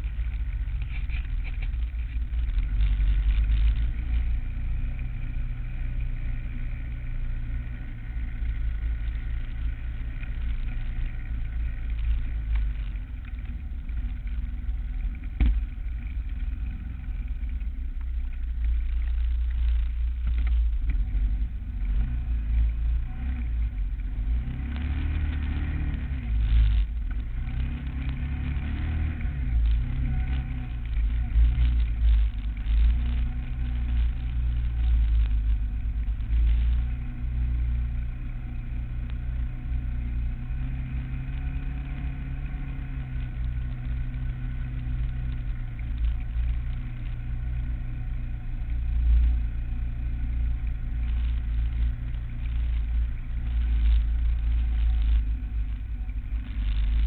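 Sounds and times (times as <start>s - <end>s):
atv engine running: 0.0s - 57.0s
heavy low rumble: 0.0s - 57.0s.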